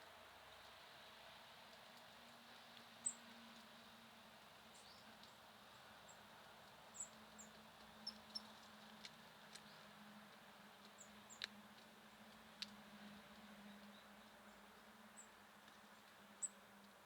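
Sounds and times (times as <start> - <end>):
songbirds chirping: 3.0 - 17.0.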